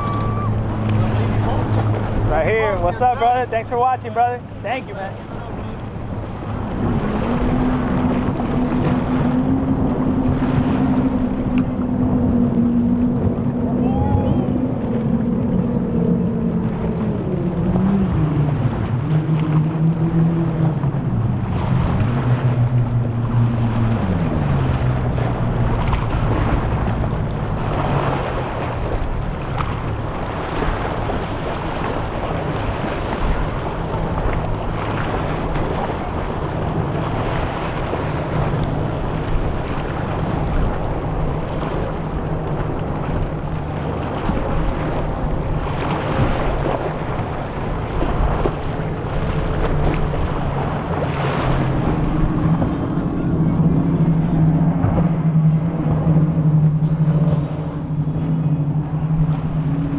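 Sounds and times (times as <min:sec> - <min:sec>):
breaking surf: 0:00.0 - 0:15.7, 0:16.4 - 0:59.9
boat wake noise: 0:00.0 - 0:59.9
outboard engines droning: 0:00.0 - 0:59.9
wind: 0:00.0 - 0:59.9.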